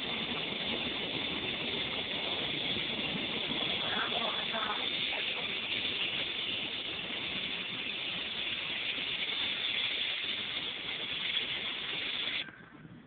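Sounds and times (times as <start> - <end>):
airliner cabin engine noise: 0.0 - 13.0
cabin air hiss: 0.0 - 13.0.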